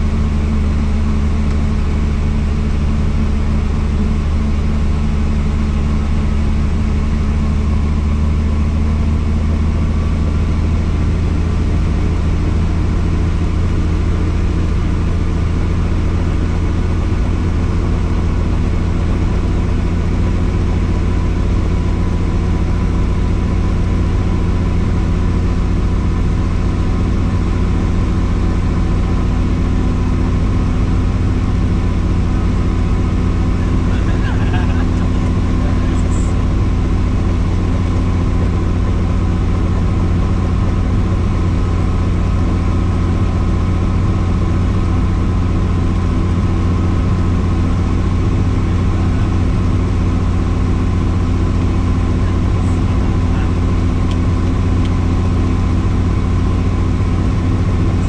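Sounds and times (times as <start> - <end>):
helicopter turbine and rotor hum: 0.0 - 58.0.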